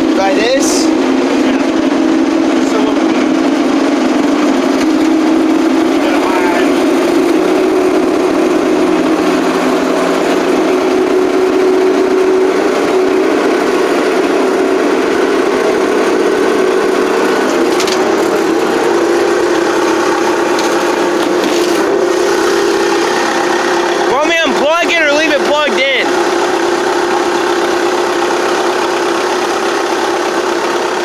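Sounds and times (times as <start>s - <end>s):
backhoe engine running: 0.0s - 31.0s
steady whine: 0.0s - 31.0s.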